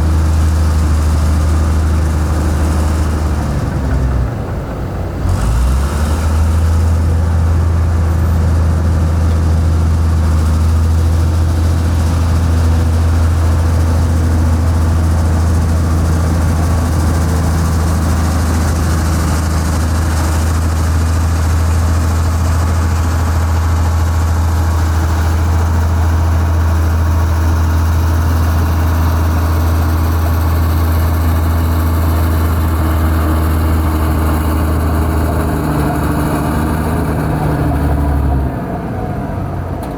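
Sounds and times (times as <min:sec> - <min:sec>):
diesel engine low hum: 0:00.0 - 0:39.9.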